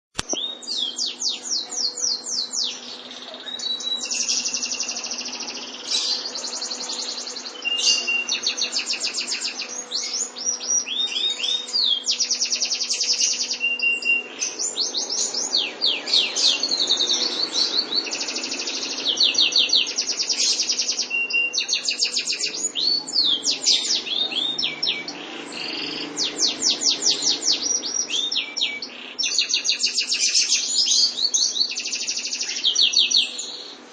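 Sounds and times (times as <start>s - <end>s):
canary singing trills: 0.2s - 33.8s.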